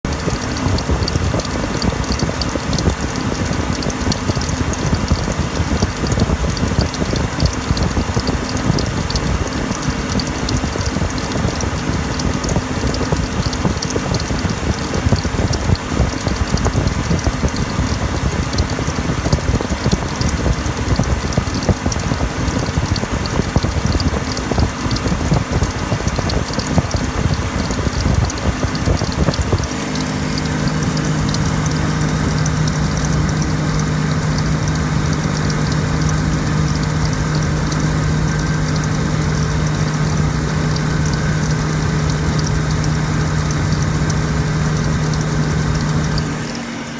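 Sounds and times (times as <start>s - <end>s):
belt drive ticking and clatter: 0.0s - 46.9s
car engine running: 0.0s - 46.9s.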